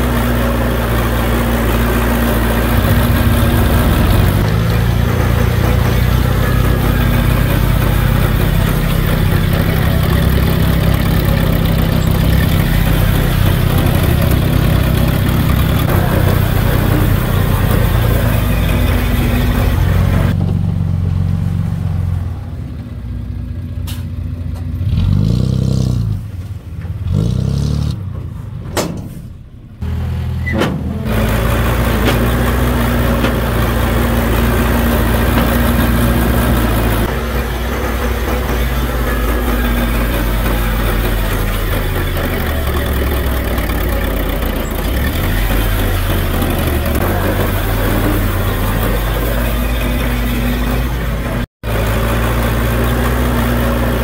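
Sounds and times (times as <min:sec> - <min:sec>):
engine revving: 0:00.0 - 0:22.5, 0:24.8 - 0:26.3, 0:27.0 - 0:28.0, 0:29.8 - 0:54.0
heavy machinery diesel engines running: 0:00.0 - 0:54.0.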